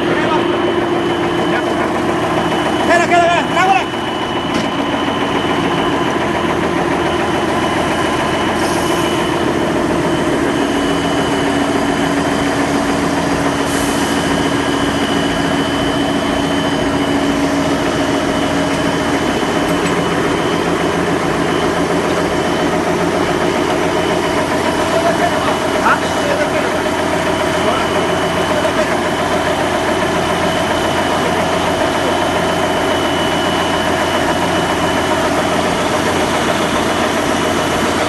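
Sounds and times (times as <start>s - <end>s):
loud machine drone with whining: 0.0s - 38.0s.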